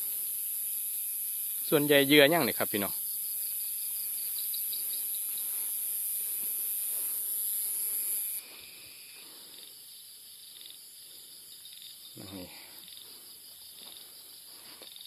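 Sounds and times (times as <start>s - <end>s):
cricket-like chirping: 0.0s - 15.0s
high-pitched insect drone: 0.0s - 15.0s.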